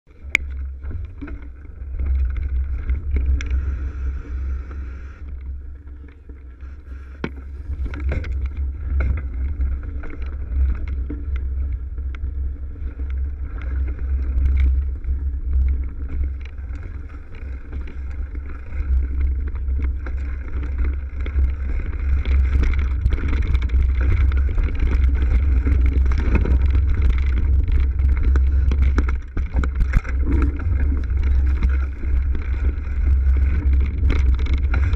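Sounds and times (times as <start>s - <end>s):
bike rattling: 0.1s - 34.9s
wind rumble against microphone: 0.1s - 34.9s.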